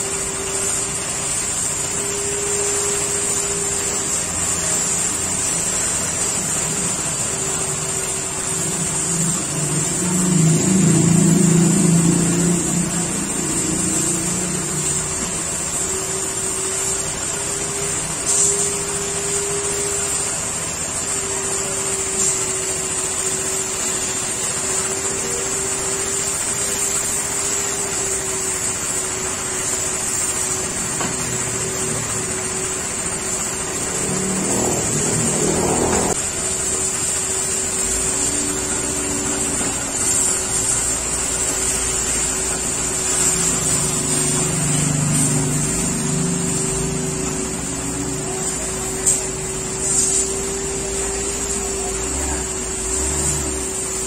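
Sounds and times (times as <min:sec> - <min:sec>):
pressure washer spraying: 0:00.0 - 0:54.0.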